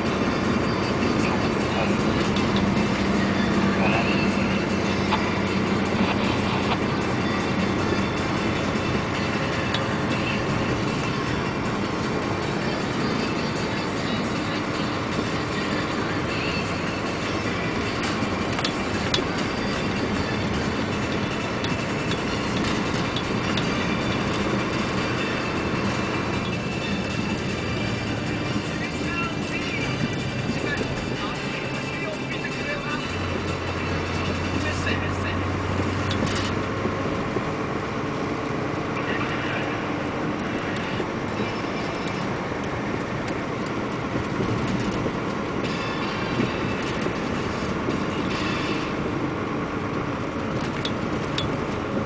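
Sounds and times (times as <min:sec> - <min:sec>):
truck engine and road noise: 0:00.0 - 0:52.0.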